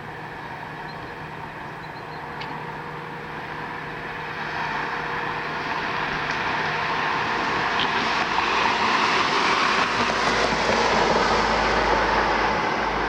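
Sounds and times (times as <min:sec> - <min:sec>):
distant vehicle drone: 0:00.0 - 0:13.0.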